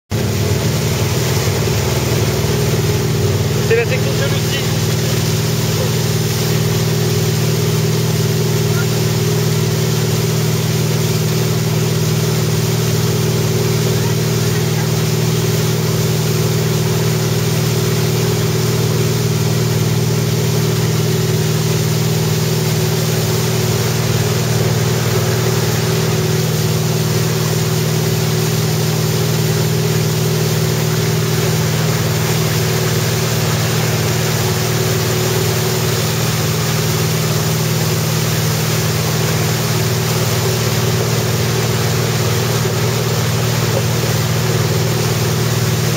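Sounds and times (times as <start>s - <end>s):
boat engine running: 0.1s - 45.9s
wake water churning: 0.1s - 45.9s.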